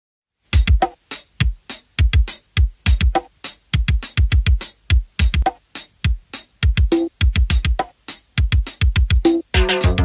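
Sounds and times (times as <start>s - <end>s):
pop song drum beat: 0.6s - 10.0s.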